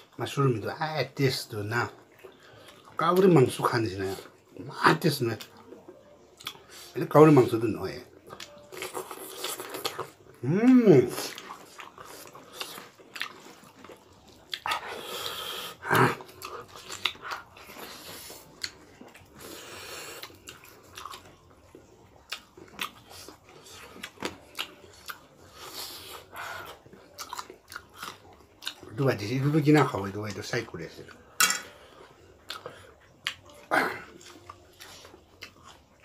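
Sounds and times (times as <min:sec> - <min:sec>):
people chewing food: 0:00.0 - 0:36.0.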